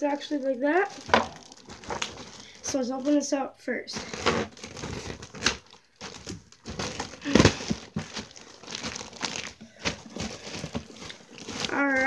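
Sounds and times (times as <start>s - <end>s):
plastic bag crinkling: 0.0s - 3.3s, 3.9s - 12.0s.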